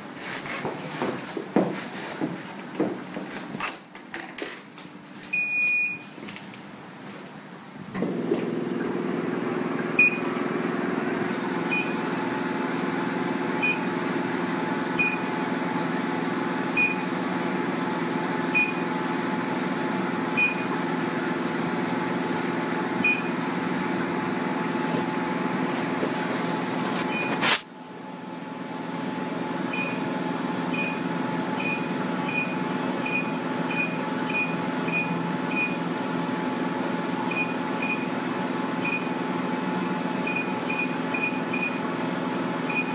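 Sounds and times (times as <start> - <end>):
machine cooling hum: 0.0 - 42.9.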